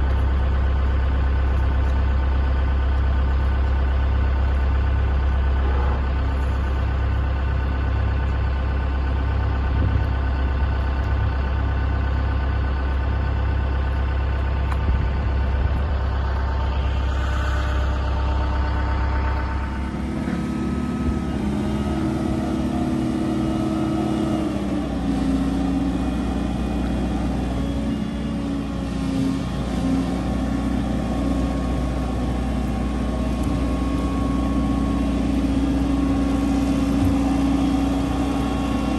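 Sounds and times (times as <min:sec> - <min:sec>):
heavy engine humming: 0:00.0 - 0:38.9
travel lift engine droning: 0:00.0 - 0:38.9.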